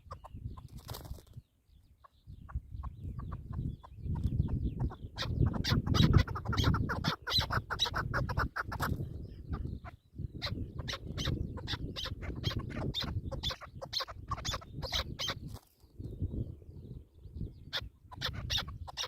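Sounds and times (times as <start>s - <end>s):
partridges calling: 0.0s - 19.0s.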